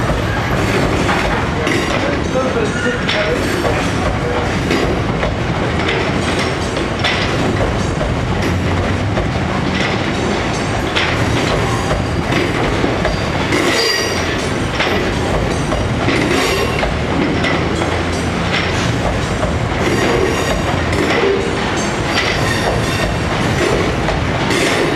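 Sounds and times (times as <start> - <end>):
freight wagons rumbling: 0.0 - 24.9
wheels clanking over rail joints: 0.0 - 24.9.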